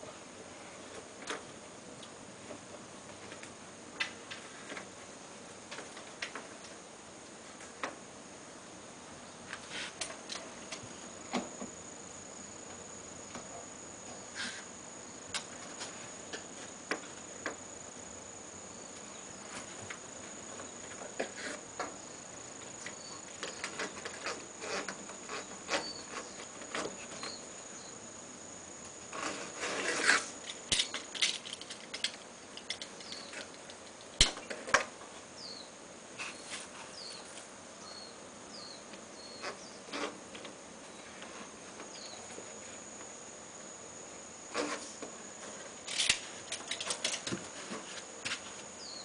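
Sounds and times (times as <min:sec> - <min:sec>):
steady high-pitched whine: 0:00.0 - 0:49.0.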